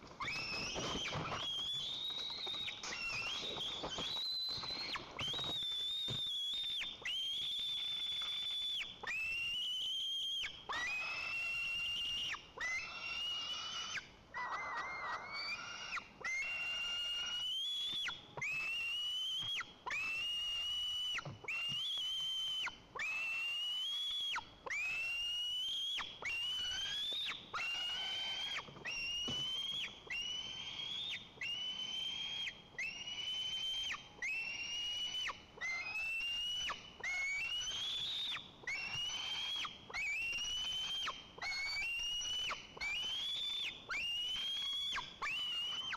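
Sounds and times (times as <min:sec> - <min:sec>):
eagle chick piping whistled calls: 0:00.2 - 0:45.9.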